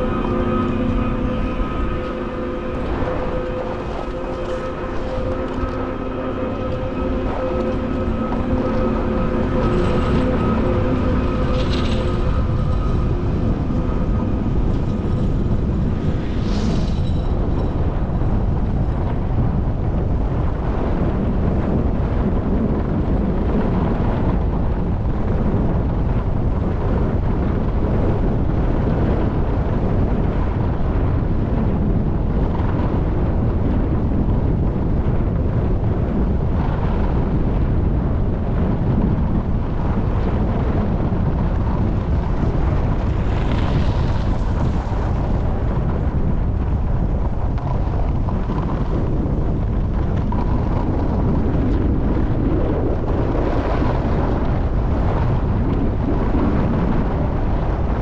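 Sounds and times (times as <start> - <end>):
skis rumbling on snow: 0.0 - 58.0
wind on microphone: 0.0 - 58.0.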